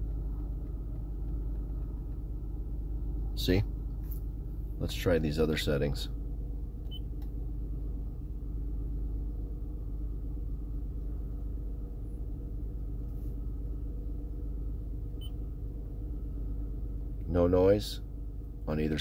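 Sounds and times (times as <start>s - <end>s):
climate control blower humming: 0.0s - 19.0s.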